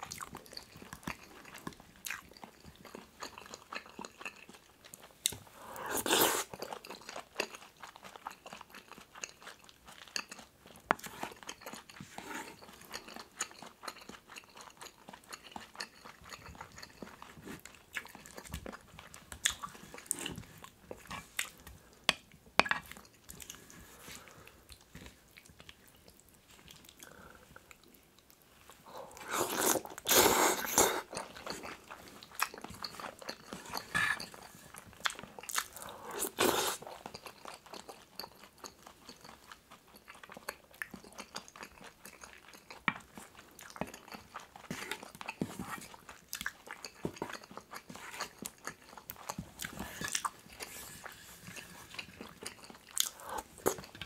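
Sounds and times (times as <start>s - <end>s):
chewing and biting: 0.0s - 21.6s, 24.7s - 54.0s.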